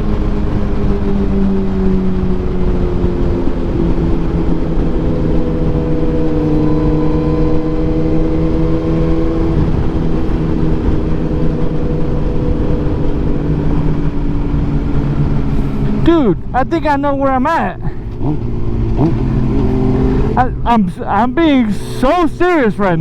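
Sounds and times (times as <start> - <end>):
motorcycle engine cruising: 0.0 - 23.0
rushing wind noise: 0.0 - 23.0.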